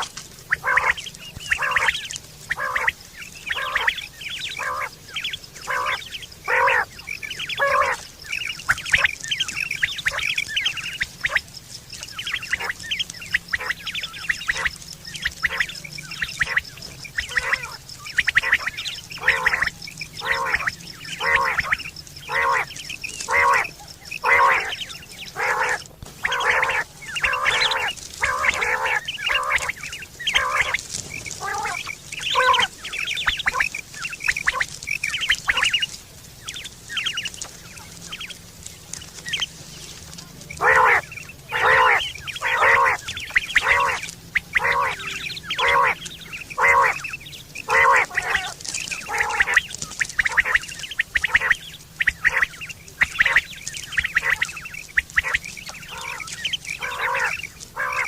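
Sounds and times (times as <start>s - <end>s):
quail calling: 0.0s - 58.0s.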